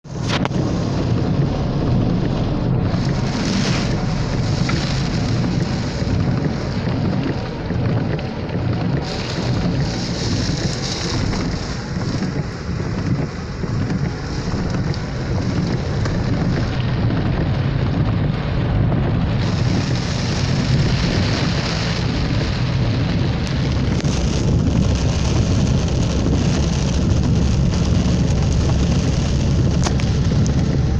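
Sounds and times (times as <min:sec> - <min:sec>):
deep rumble: 0:00.0 - 0:30.9
heavy rain falling: 0:00.0 - 0:30.9.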